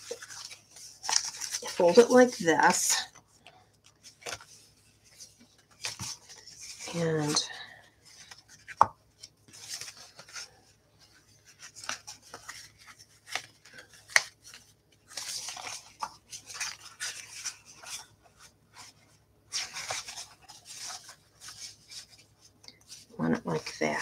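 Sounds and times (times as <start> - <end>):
paper rustling and rubbing: 0.0 - 24.0.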